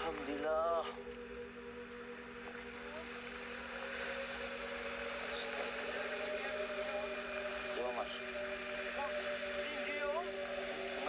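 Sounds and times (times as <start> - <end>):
droning hum of held tones: 0.0 - 11.0.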